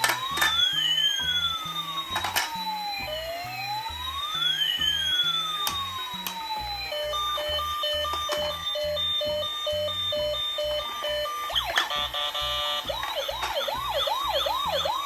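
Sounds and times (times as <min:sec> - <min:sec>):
toy electronic siren: 0:00.0 - 0:15.0.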